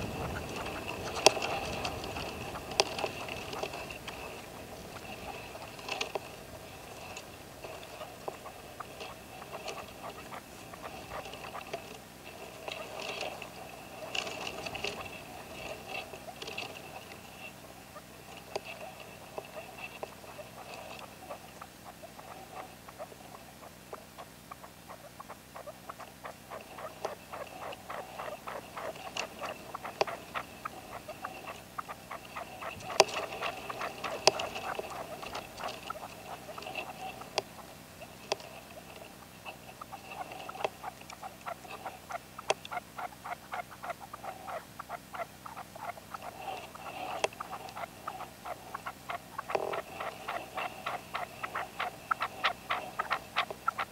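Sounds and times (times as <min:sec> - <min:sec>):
partridge clucking calls: 0:00.0 - 0:53.9.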